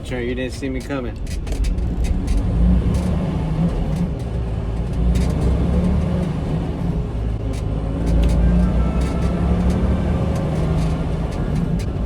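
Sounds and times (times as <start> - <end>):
diesel engine drone: 0.0 - 12.0
road rumble: 0.0 - 12.0
light clicks and rattles: 0.1 - 12.0.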